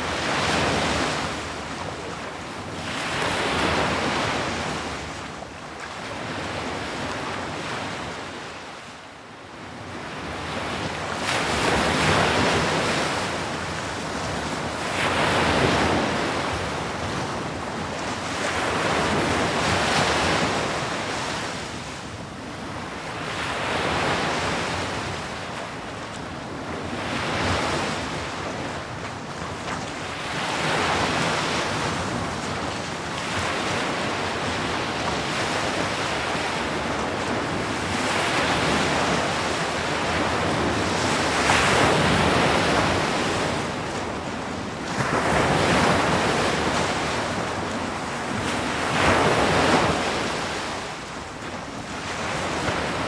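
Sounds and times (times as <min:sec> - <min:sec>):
sea waves breaking on shore: 0:10.0 - 0:53.0.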